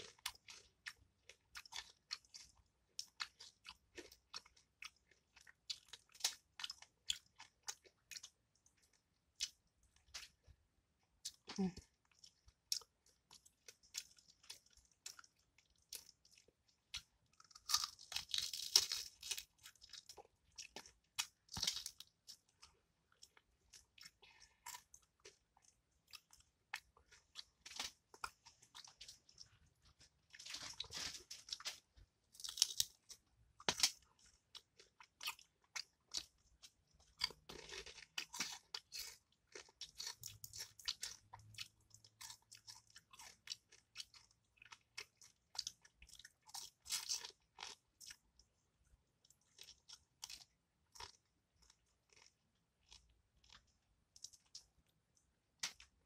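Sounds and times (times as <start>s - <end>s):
crunchy chewing: 0.0s - 10.5s, 11.2s - 48.5s, 49.2s - 54.8s.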